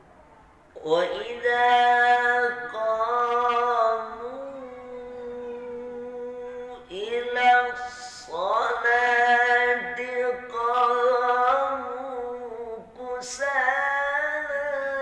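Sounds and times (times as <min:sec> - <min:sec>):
person reciting melodically: 0:00.7 - 0:15.0.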